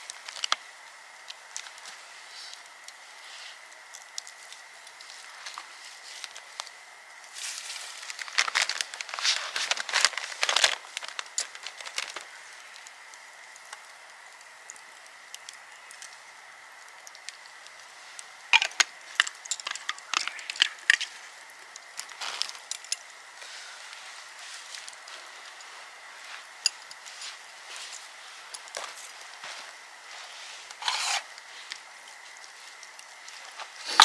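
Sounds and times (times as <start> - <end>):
dry twigs cracking and snapping: 0.0 - 3.0, 3.6 - 34.0.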